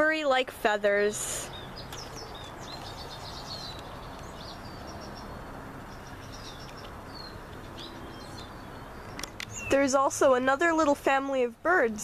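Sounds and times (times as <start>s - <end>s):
outdoor background hiss: 0.0s - 12.0s
small birds chirping: 0.8s - 12.0s.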